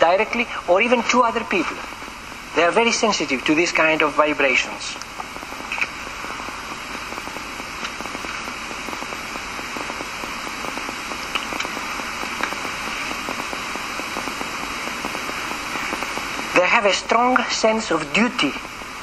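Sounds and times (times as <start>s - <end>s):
recording hiss with crackling: 0.0s - 19.0s.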